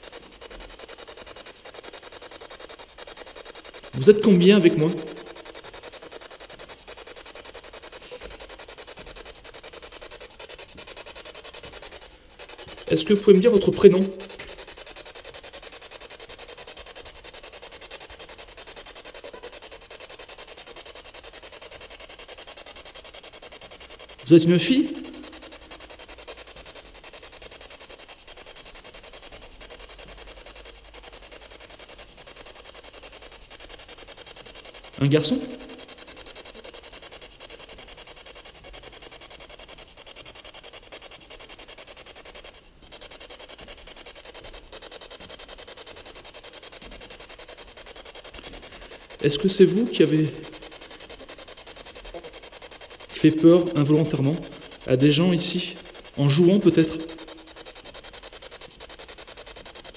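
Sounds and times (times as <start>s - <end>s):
pulsing static hiss: 0.0s - 59.9s.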